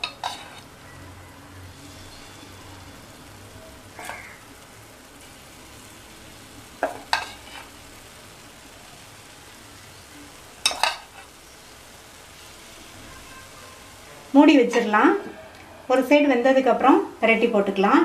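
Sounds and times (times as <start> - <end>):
batter sizzling in oil: 0.0 - 18.0.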